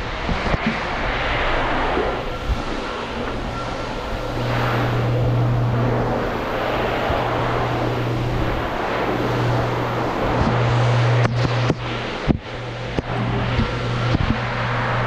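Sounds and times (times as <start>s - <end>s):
broad rushing noise: 0.0s - 15.0s
vehicle engine drone: 0.0s - 15.0s.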